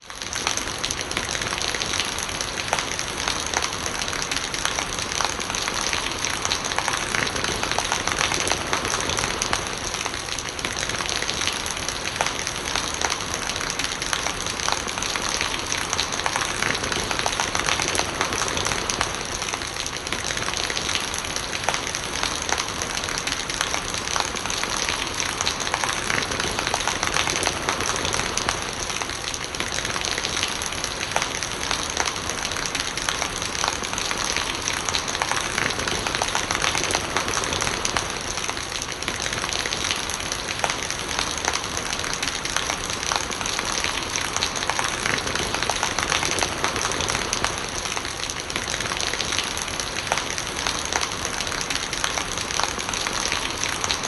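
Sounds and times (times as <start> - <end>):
rain patter: 0.0 - 54.0
rainwater running and gurgling: 0.0 - 54.0.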